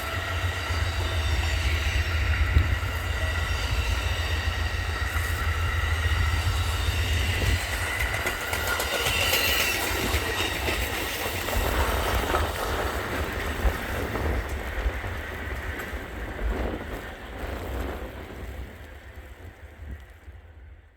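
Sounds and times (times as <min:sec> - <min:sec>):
wheels clicking over rail joints: 0:00.0 - 0:20.4
train rumbling by: 0:00.0 - 0:20.9.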